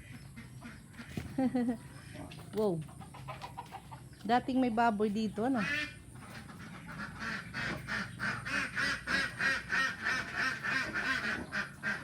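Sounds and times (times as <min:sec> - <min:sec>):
ducks quacking: 0:00.0 - 0:04.1, 0:05.2 - 0:12.0.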